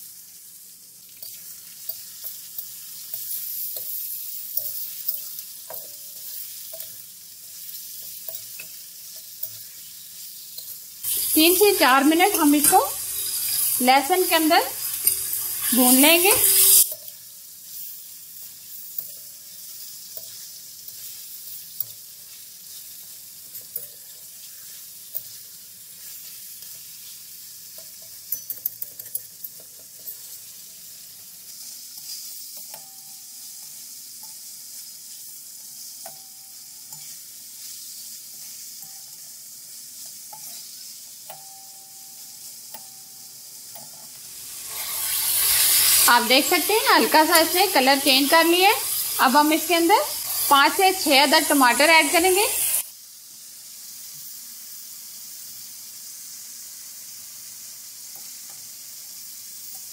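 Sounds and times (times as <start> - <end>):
meat sizzling in a pan: 0.0 - 59.9.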